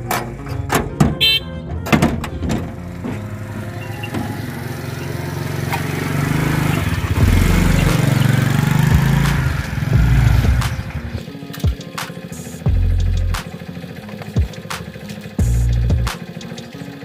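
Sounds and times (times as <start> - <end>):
small motorcycle engine: 2.8 - 17.0.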